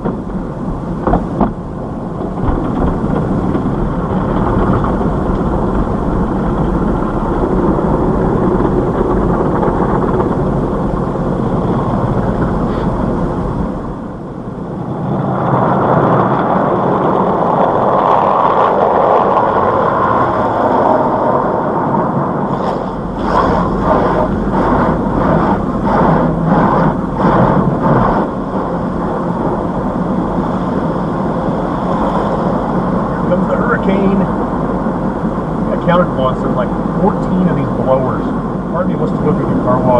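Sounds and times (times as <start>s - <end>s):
car wash spray and machinery: 0.0s - 39.9s.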